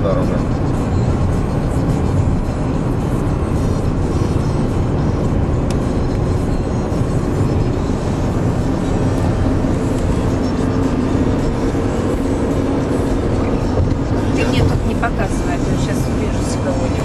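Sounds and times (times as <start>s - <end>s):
road and engine noise in car: 0.0s - 17.0s.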